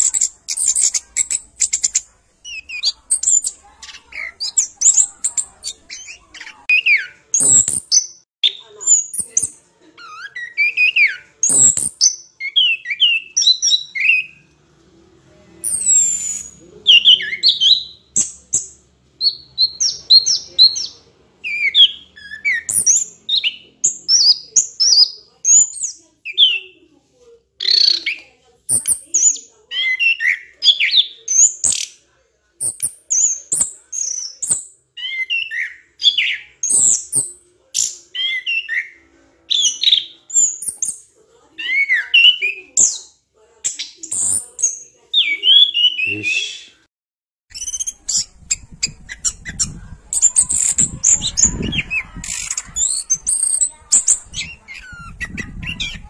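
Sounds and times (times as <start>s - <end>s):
bird chirping: 0.0s - 14.5s, 15.6s - 26.9s, 32.6s - 46.8s, 47.5s - 56.0s.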